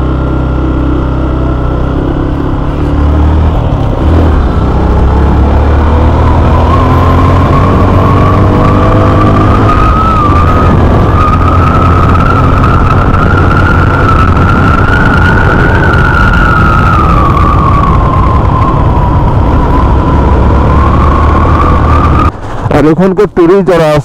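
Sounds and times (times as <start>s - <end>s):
motorcycle whine: 0.0s - 23.0s
wind rush on microphone: 2.8s - 22.8s.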